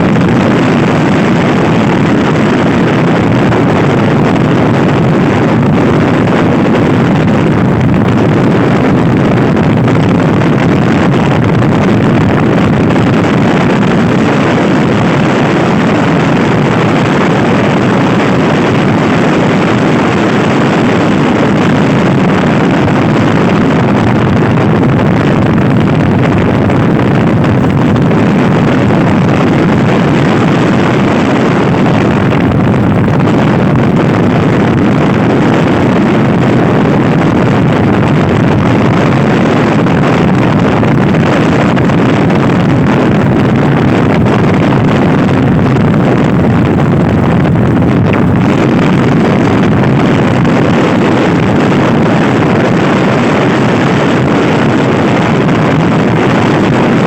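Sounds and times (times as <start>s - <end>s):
scooter road and engine noise: 0.0s - 57.0s
wind rush on microphone: 0.0s - 57.0s.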